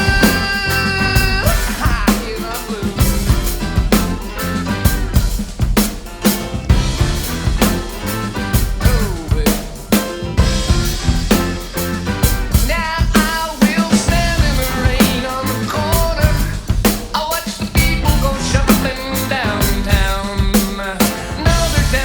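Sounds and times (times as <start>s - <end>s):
band with bass: 0.0s - 22.0s
drum kit rock groove: 0.0s - 22.0s.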